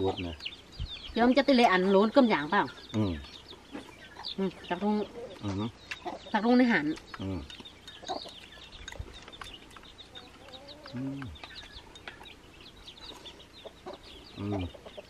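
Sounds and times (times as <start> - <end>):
chicks chirping: 0.0 - 15.0.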